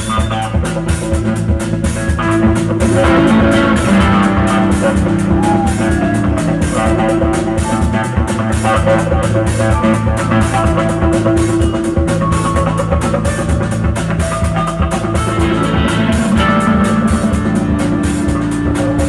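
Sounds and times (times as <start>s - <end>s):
drum kit steady beat: 0.0s - 19.0s
electric guitar: 0.0s - 19.0s.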